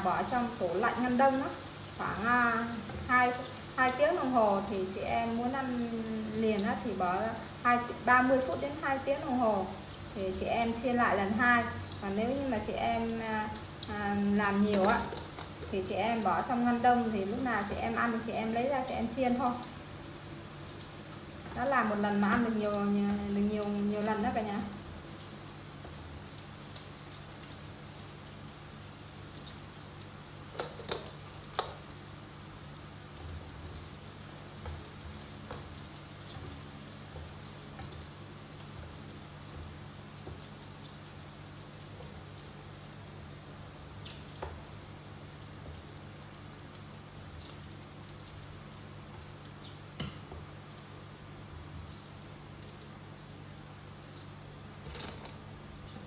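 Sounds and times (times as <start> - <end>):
potatoes sizzling in hot oil: 0.0 - 56.0.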